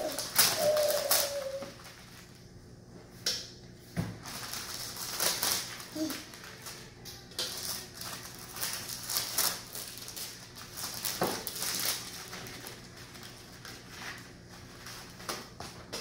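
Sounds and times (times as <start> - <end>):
plastic wrapper crinkling: 0.0 - 2.4, 4.2 - 15.4.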